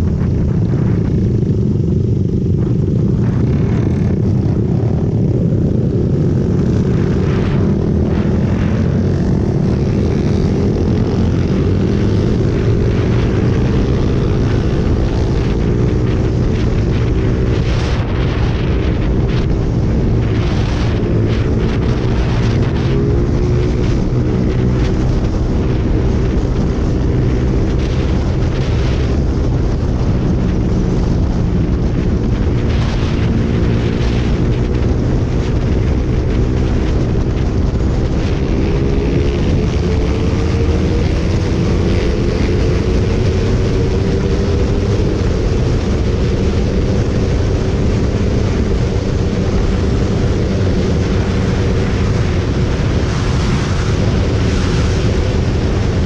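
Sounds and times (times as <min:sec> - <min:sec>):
motorcycle engine at speed: 0:00.0 - 0:56.0
wind rushing on microphone: 0:00.0 - 0:56.0.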